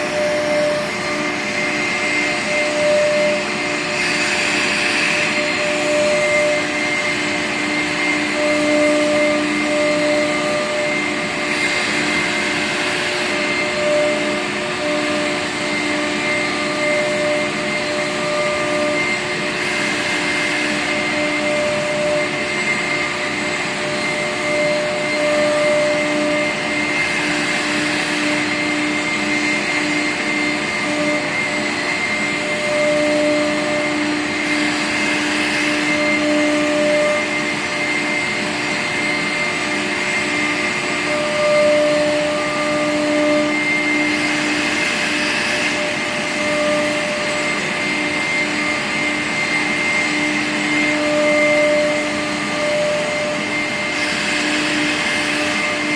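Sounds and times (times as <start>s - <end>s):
wood router whining: 0.0s - 55.9s.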